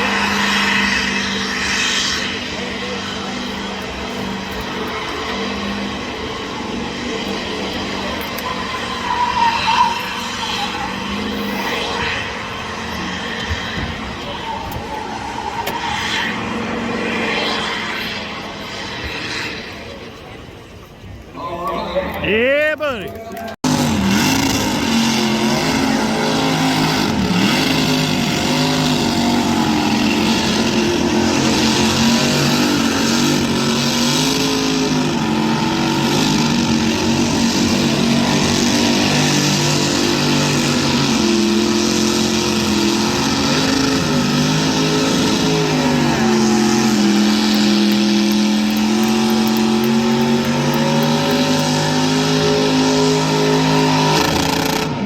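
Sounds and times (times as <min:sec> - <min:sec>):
car engine at high revs: 0:00.0 - 0:21.3, 0:23.5 - 0:55.0.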